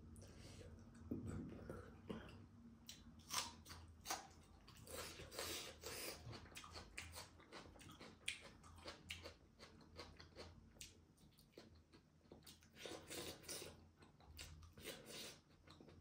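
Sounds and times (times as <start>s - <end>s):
person chewing with mouth clicks: 1.0s - 16.0s.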